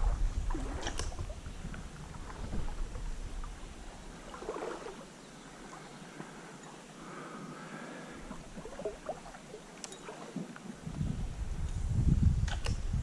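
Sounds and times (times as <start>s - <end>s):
creek water sloshing: 0.0s - 11.0s.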